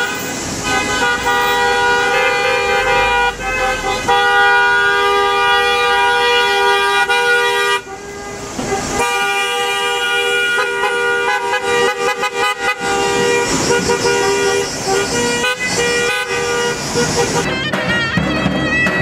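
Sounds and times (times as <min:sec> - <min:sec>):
car horns honking: 0:00.0 - 0:19.0.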